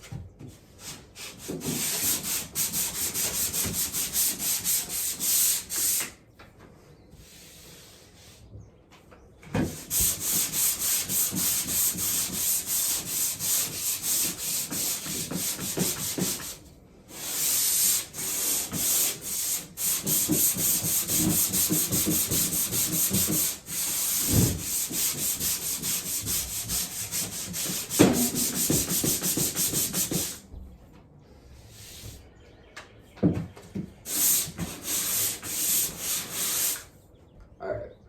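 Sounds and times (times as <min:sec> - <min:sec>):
sandpaper scraping drywall: 0:00.6 - 0:06.2, 0:07.2 - 0:08.5, 0:09.6 - 0:30.4, 0:34.1 - 0:36.9.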